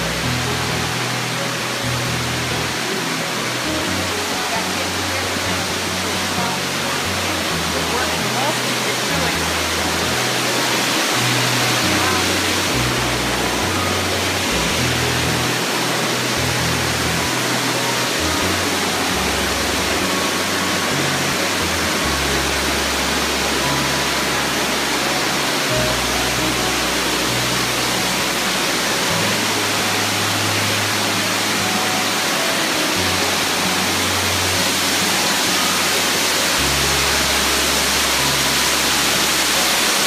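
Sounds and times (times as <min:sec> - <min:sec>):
background music bass notes: 0:00.0 - 0:40.0
waterfall roaring: 0:00.0 - 0:40.0.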